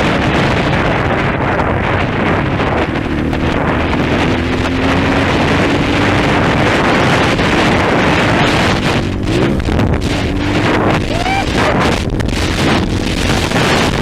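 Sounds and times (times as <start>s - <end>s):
dirt bike engine running: 0.0s - 14.0s
wind buffeting microphone: 0.0s - 14.0s.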